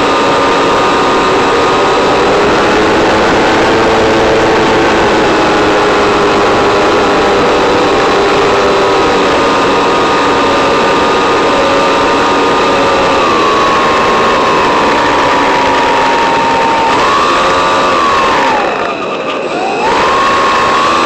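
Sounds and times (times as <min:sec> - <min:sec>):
model plane motor whine: 0:00.0 - 0:21.0
rushing air: 0:00.0 - 0:21.0.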